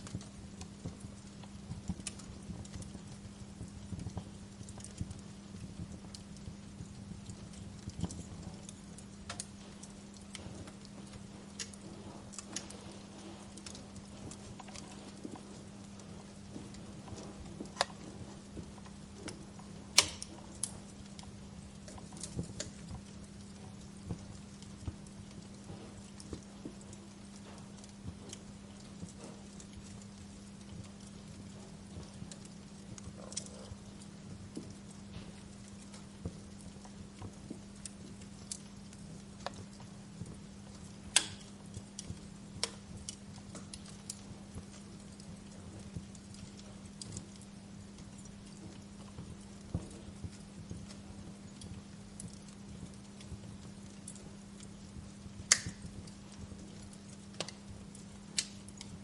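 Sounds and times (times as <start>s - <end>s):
faint low hum: 0.0s - 59.0s
wood fire crackling: 0.0s - 59.0s.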